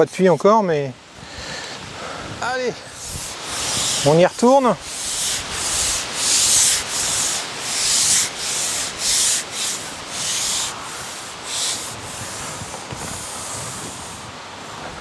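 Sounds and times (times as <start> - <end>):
rhythmic scraping hiss: 1.0 - 15.0.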